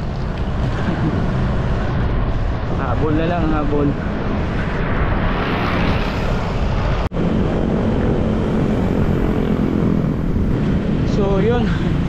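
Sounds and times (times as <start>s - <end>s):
passing motor traffic: 0.0s - 12.0s
wind rumble on microphone: 0.0s - 12.0s.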